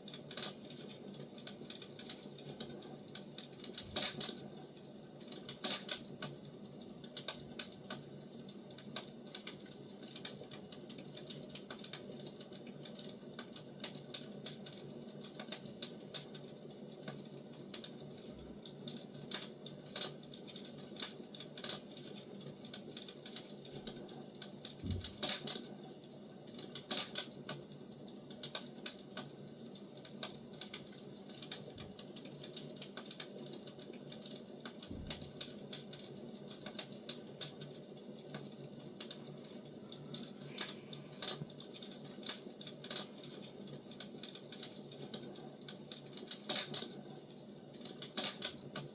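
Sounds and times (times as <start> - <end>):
firewood crackling and popping: 0.0 - 48.9.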